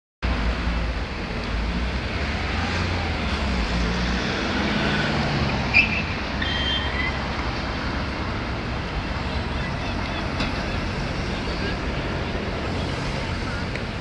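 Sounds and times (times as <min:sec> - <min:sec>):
cars driving engine and tyre rumble: 0:00.2 - 0:14.0.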